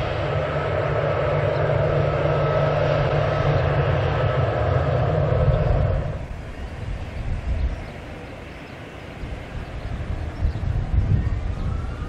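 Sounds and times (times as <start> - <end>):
jet engines at low taxi power: 0.0 - 12.0.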